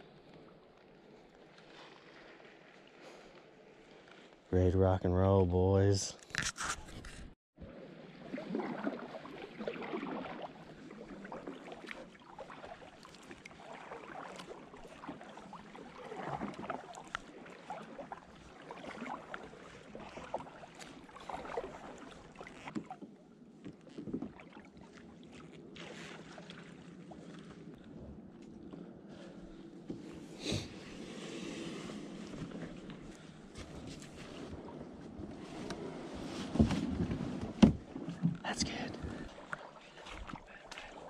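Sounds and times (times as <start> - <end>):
paddle strokes splashing water: 0.0 - 4.5, 6.4 - 41.0.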